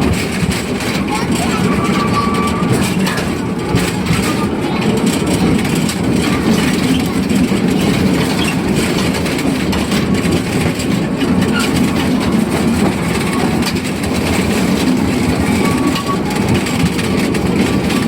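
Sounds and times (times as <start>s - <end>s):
light clatter: 0.0s - 18.0s
train wheels rumbling on rails: 0.0s - 18.0s.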